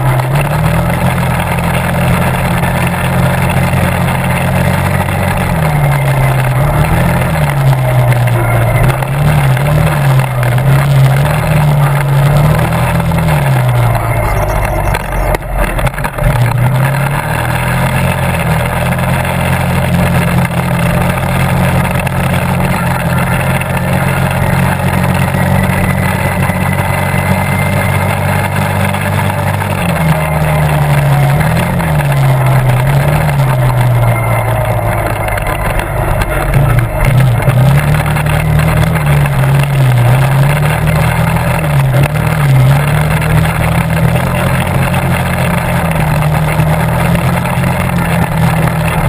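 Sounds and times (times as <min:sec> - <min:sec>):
quad engine running: 0:00.0 - 0:49.0.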